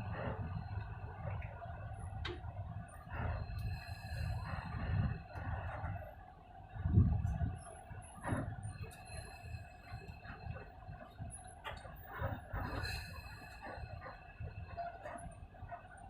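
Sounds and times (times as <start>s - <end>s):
road vehicle rumbling: 0.0s - 16.0s.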